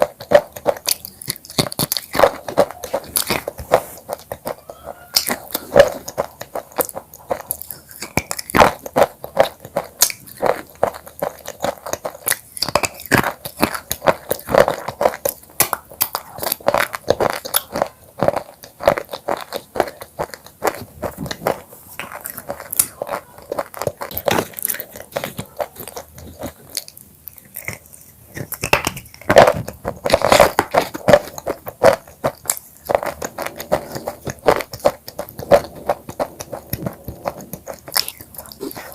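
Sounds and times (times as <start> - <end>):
crunching chips: 0.0 - 38.9.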